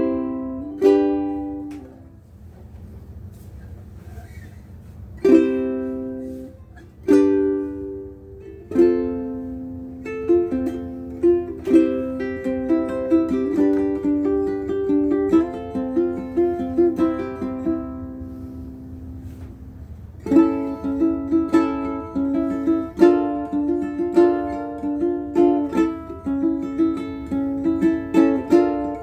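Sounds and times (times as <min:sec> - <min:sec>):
ukulele strumming and picking: 0:00.0 - 0:02.3, 0:04.8 - 0:29.0.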